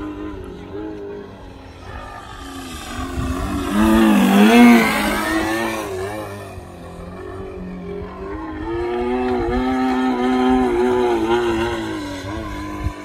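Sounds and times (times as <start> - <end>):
model plane engine in flight: 0.0 - 13.0.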